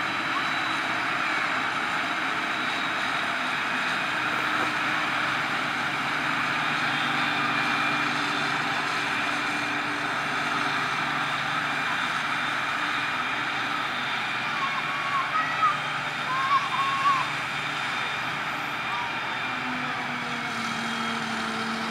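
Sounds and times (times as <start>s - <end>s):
forage harvester drone: 0.0s - 21.9s.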